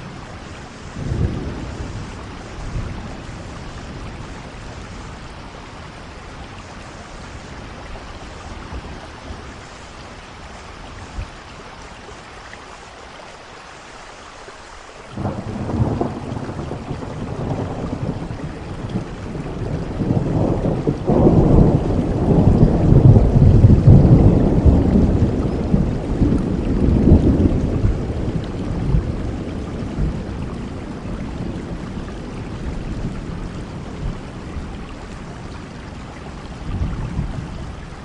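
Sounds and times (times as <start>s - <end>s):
thunder rumble: 0.0s - 11.4s, 15.2s - 38.0s
steady rain: 0.0s - 38.0s.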